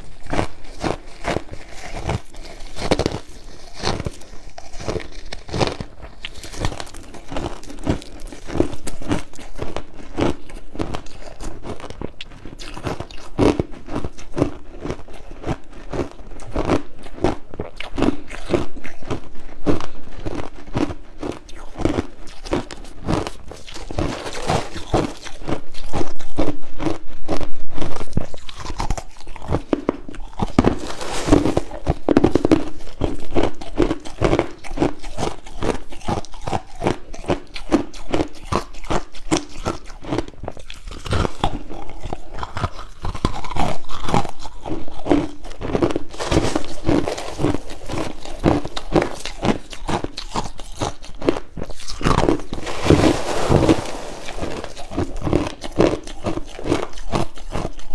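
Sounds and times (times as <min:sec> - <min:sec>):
chewing crushed ice: 0:00.0 - 0:57.9.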